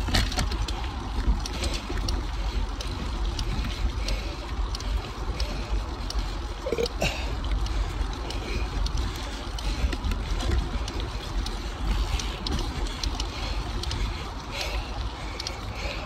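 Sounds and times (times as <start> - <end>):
bike ticks and rattles: 0.0 - 16.0
bike tyres rolling over dirt: 0.0 - 16.0
wind rumble on microphone: 0.0 - 16.0.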